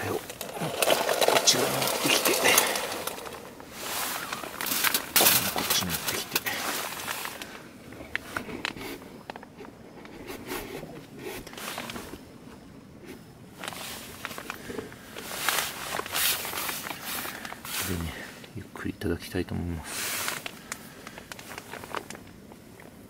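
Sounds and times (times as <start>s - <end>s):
rustling and handling noises: 0.0s - 18.6s, 19.9s - 23.0s.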